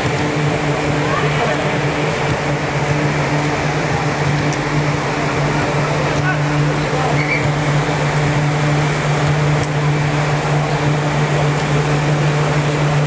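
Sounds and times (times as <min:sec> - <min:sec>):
blower fans humming: 0:00.0 - 0:13.0.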